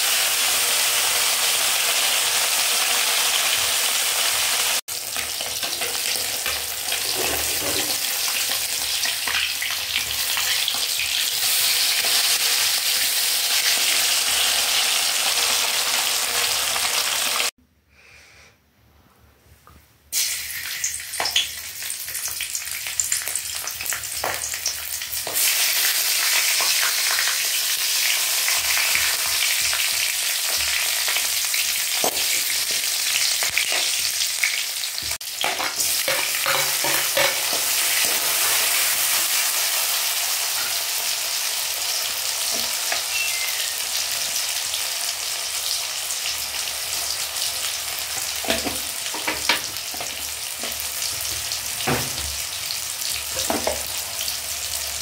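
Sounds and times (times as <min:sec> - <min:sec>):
hot oil sizzling and crackling: 0:00.0 - 0:17.6, 0:20.1 - 0:55.0.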